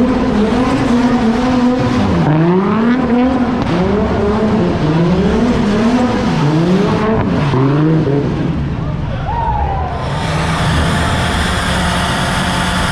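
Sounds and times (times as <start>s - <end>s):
car engine revving: 0.0s - 8.8s, 9.8s - 12.9s.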